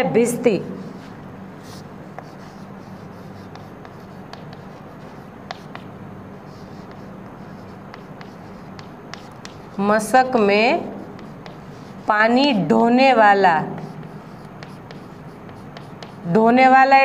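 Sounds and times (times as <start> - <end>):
chalk scratching on blackboard: 0.8 - 12.4, 13.6 - 16.3.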